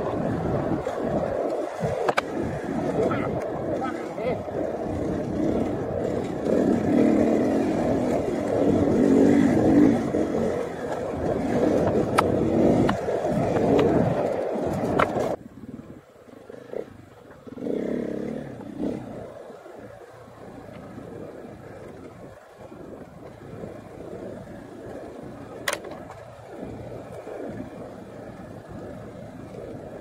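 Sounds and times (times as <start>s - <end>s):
motorcycle engine running: 2.1s - 30.0s.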